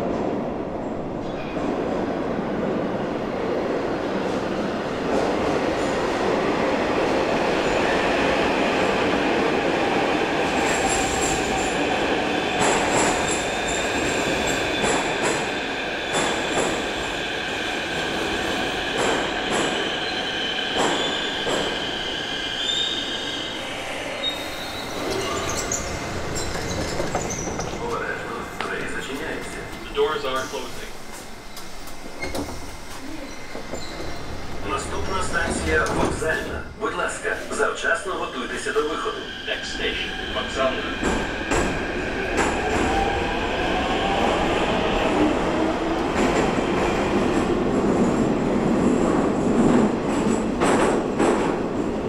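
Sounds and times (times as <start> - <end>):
metro train rumble: 0.0 - 52.0.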